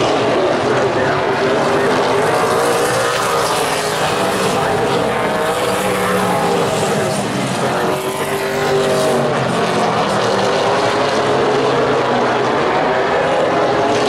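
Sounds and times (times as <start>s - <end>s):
stock car engines racing: 0.0s - 14.0s.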